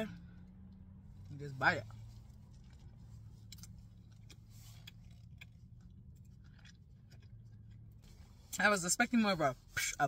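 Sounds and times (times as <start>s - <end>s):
low car hum: 0.0s - 10.0s
faint chewing: 0.4s - 8.5s.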